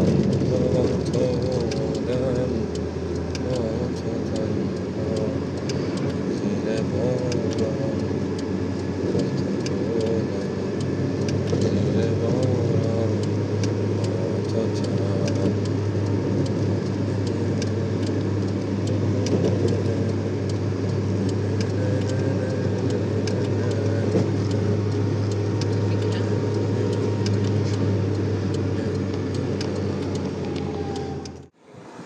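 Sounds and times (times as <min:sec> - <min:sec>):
small scattered clicks: 0:00.0 - 0:31.5
car engine and road noise: 0:00.0 - 0:32.0.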